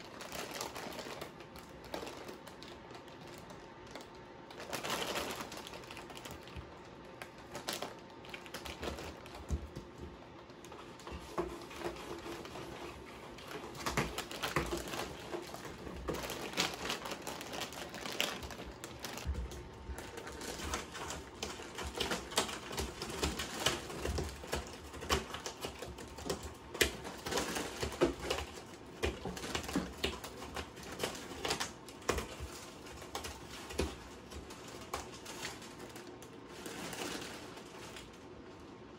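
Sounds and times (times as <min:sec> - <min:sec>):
paws scratching cardboard: 0:00.0 - 0:38.1
plastic bags crinkling: 0:00.0 - 0:38.9.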